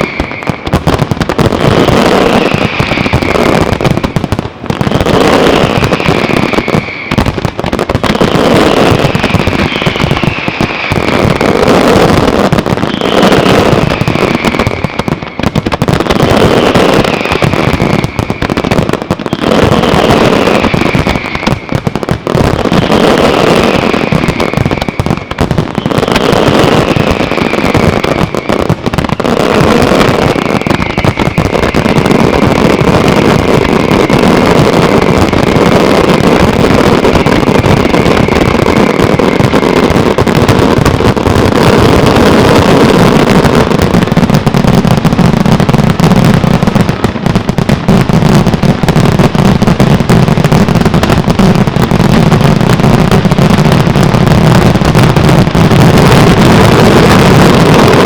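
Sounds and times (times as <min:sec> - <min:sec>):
falling firework whistle: 0:00.0 - 0:58.0
fireworks bangs and crackles: 0:00.0 - 0:58.0.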